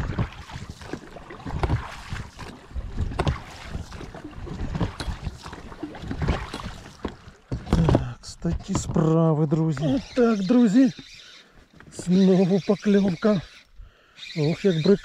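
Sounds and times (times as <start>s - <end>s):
water against boat hull: 0.0s - 15.0s.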